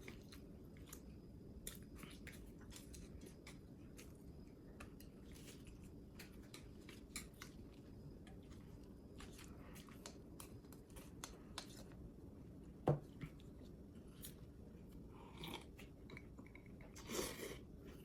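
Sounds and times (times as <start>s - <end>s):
person chewing crunchy food: 0.0s - 12.1s, 13.1s - 18.0s.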